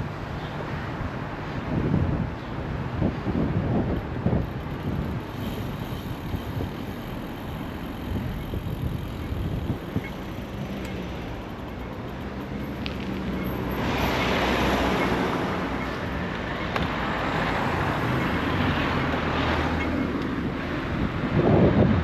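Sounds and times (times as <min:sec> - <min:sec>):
tyre and road noise: 0:00.0 - 0:22.0
vehicle engine humming: 0:02.6 - 0:21.1.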